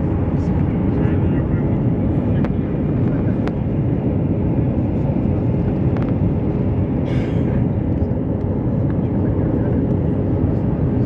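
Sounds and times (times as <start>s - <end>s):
airliner engine and airflow rumble: 0.0s - 11.0s.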